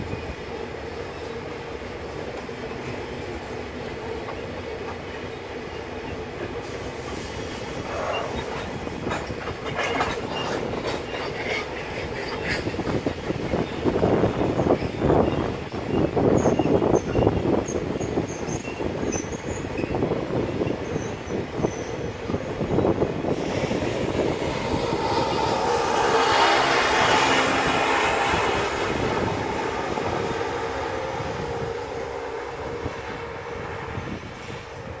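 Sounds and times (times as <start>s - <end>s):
train rushing noise: 0.0s - 35.0s.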